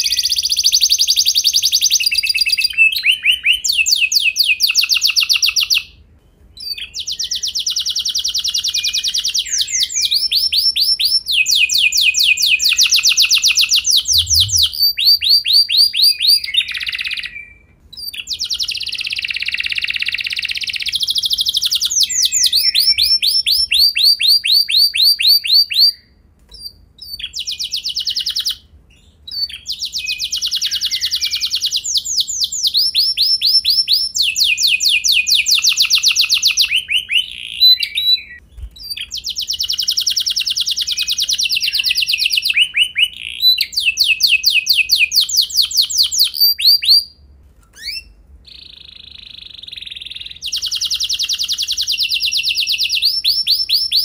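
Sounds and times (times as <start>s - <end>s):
canary singing trills: 0.0s - 47.2s, 47.8s - 54.0s.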